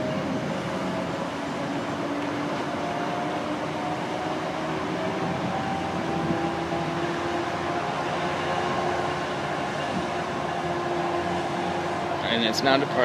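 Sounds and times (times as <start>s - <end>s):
diesel train engine powering up: 0.0s - 13.0s.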